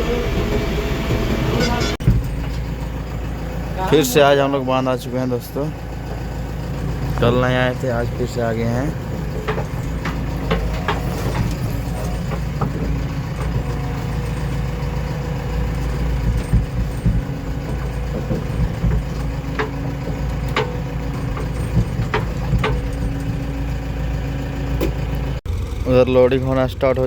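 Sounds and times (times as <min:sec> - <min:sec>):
diesel engines running: 0:00.0 - 0:27.0
sharp knocks and clanks: 0:00.4 - 0:25.4.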